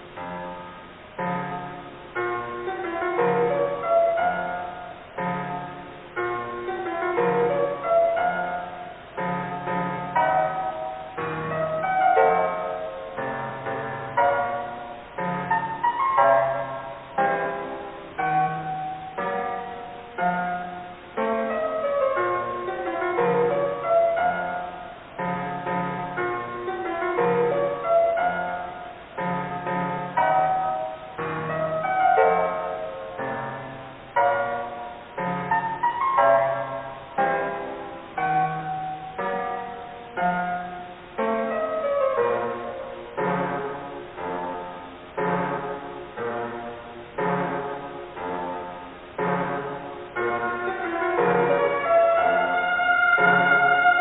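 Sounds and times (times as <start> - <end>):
muffled piano music: 0.0 - 54.0.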